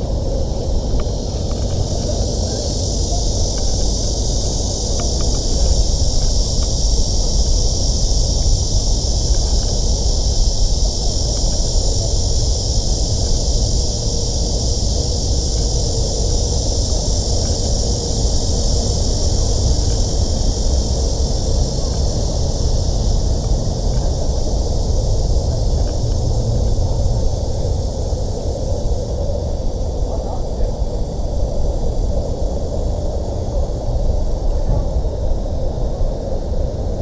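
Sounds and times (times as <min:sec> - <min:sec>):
high-pitched hiss: 0:00.0 - 0:37.0
wind rumbling on microphone: 0:00.0 - 0:37.0.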